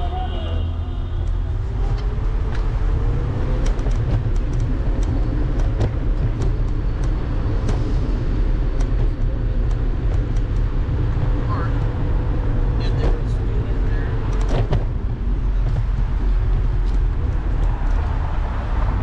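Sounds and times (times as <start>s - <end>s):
road vibration rumble: 0.0s - 19.0s.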